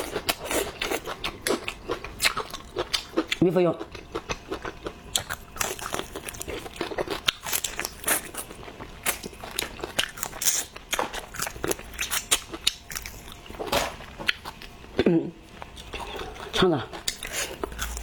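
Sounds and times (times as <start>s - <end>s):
person chewing crunchy food: 0.0s - 18.0s.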